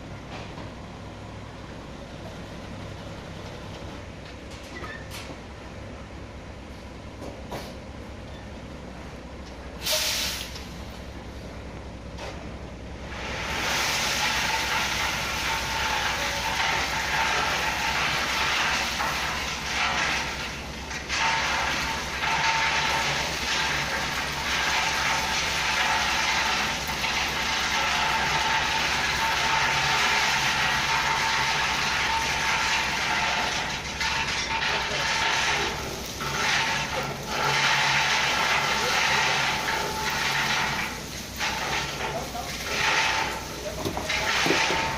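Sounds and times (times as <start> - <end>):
diesel engine rumbling: 0.0 - 44.9.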